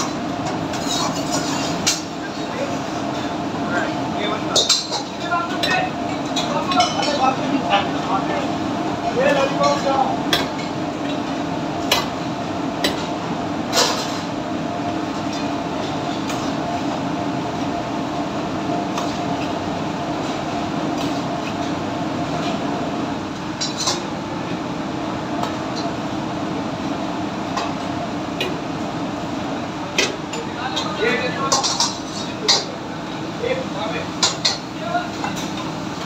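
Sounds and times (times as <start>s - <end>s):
kitchen extraction hood: 0.0s - 36.0s.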